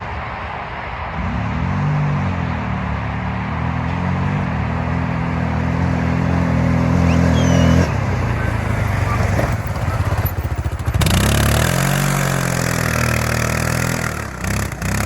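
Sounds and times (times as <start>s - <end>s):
road or wind noise: 0.0s - 15.0s
atv engine revving: 1.2s - 15.0s.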